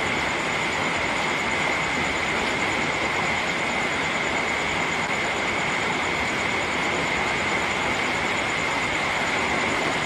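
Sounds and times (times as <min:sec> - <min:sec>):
steady rain hiss: 0:00.0 - 0:10.0.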